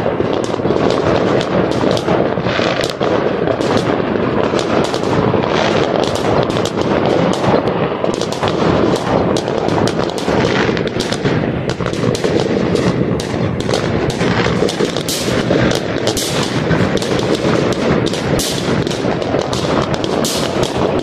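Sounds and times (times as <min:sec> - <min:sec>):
distant fireworks explosions: 0:00.0 - 0:21.0
fireworks bangs and cracks: 0:00.0 - 0:21.0.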